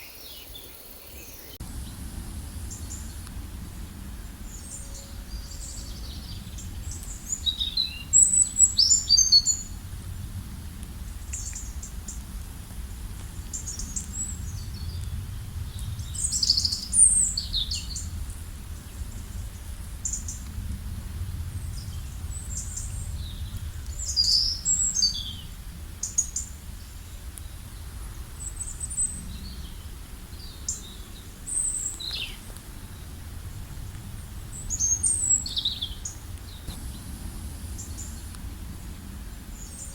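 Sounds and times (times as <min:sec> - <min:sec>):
small birds chirping: 0:00.0 - 0:10.3, 0:12.9 - 0:20.5, 0:21.6 - 0:39.9
low background rumble: 0:01.6 - 0:39.9.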